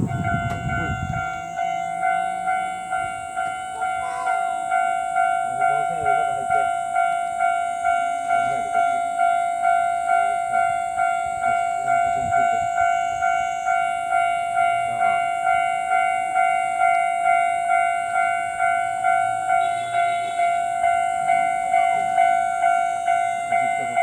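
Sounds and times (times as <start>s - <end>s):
level-crossing warning bell: 0.0s - 24.0s.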